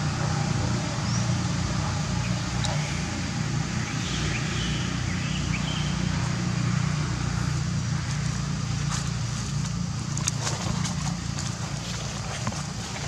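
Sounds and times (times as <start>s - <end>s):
outdoor ambience: 0.0s - 13.0s
steady low hum: 0.0s - 13.0s.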